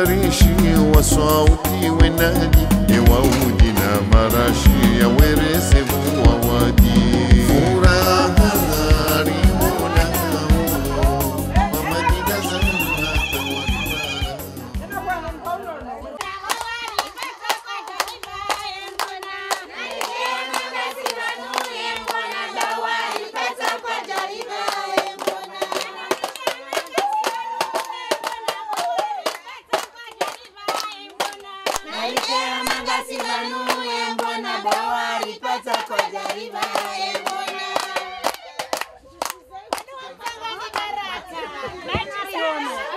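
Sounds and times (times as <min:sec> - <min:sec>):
women singing together: 0:00.0 - 0:38.6, 0:39.4 - 0:42.9
rhythmic hand clapping: 0:00.0 - 0:41.0.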